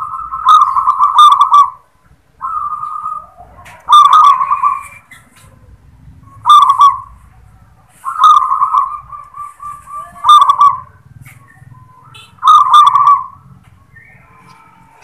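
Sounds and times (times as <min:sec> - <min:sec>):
dove singing clicks and rolling coo: 0:00.0 - 0:14.7.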